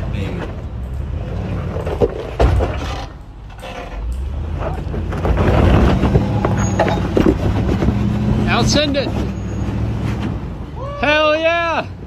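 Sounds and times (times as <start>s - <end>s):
engine rumbling low: 0.0s - 12.0s.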